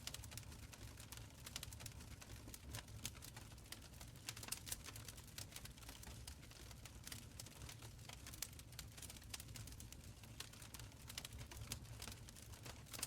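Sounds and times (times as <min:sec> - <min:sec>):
low steady fire rumble: 0:00.0 - 0:13.0
wood fire crackling and popping: 0:00.0 - 0:13.0.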